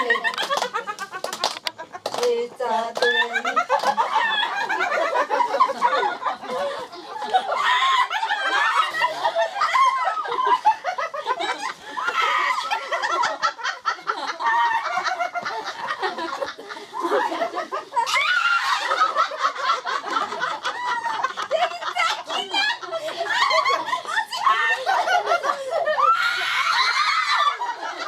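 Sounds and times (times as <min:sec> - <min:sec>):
women laughing together: 0:00.0 - 0:28.0.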